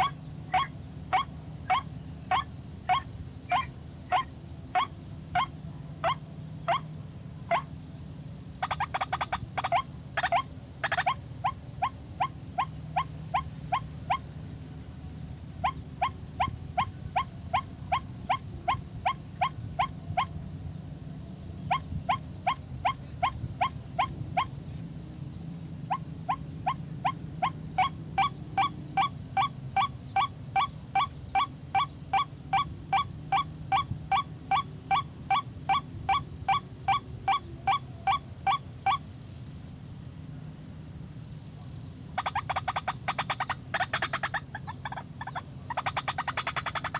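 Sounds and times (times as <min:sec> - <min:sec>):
waterhen calling: 0:00.0 - 0:07.8, 0:08.6 - 0:20.5, 0:21.6 - 0:24.6, 0:25.8 - 0:39.1, 0:41.9 - 0:46.9
steady low hum: 0:00.0 - 0:46.9.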